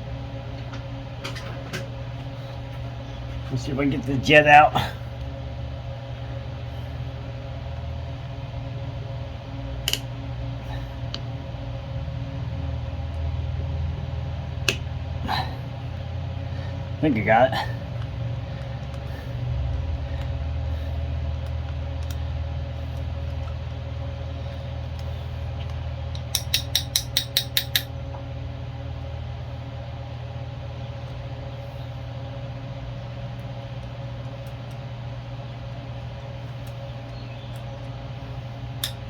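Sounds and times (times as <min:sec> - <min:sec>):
low workshop hum: 0:00.0 - 0:39.0.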